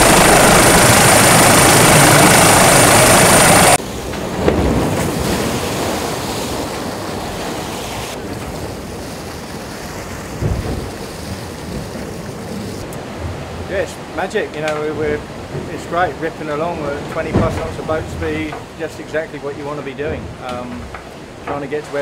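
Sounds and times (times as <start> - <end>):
rushing noise with high whine: 0.0 - 19.6
water rushing and spray breaking: 0.0 - 22.0.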